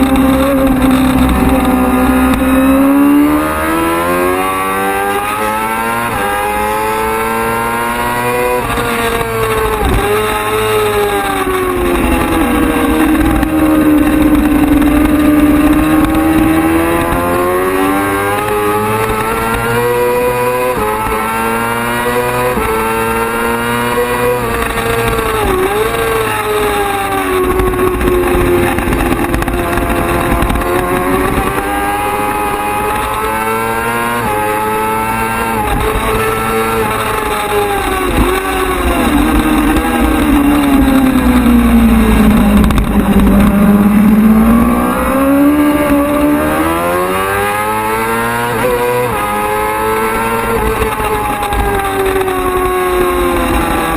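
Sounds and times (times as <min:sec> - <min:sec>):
motorcycle engine at full throttle: 0:00.0 - 0:53.9.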